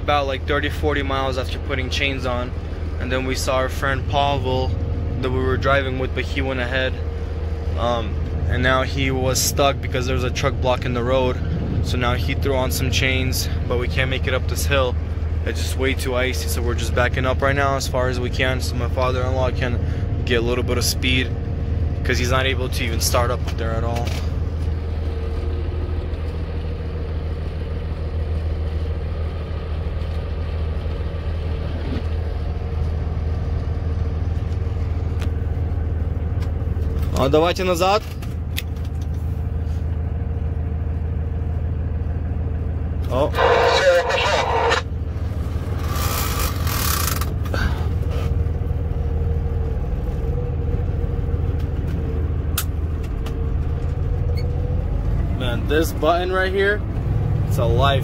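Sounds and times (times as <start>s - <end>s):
diesel engine running at low revs: 0.0s - 58.0s.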